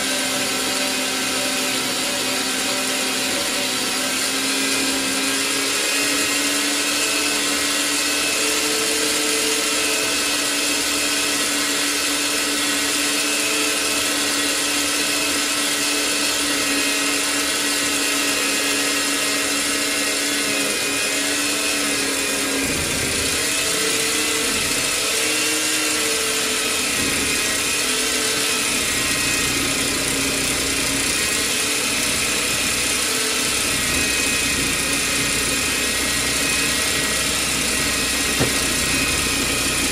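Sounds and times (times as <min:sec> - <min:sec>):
band saw cutting steel: 0:00.0 - 0:39.9.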